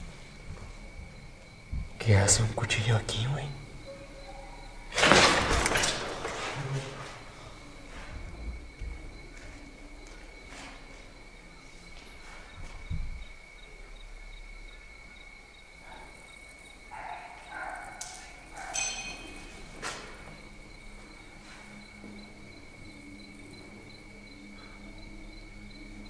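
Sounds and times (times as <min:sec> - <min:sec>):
cricket chirping: 0:00.0 - 0:26.0.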